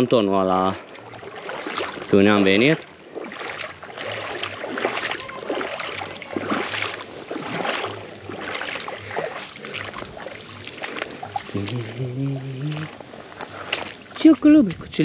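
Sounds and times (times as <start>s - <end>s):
stream water splashing: 0.0s - 15.0s.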